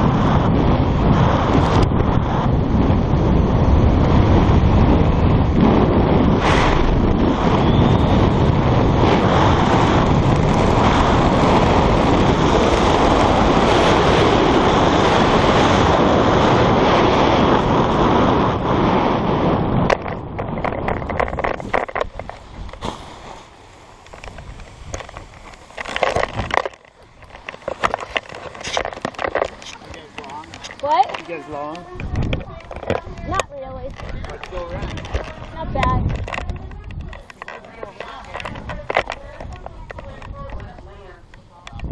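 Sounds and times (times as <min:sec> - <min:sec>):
rushing air buffeting microphone: 0:00.0 - 0:41.9.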